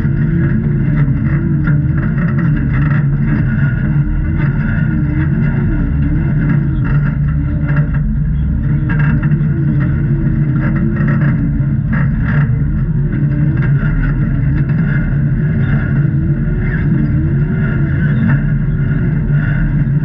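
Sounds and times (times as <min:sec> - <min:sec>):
knocks and clatter: 0:00.0 - 0:20.0
vehicle engine running: 0:00.0 - 0:20.0.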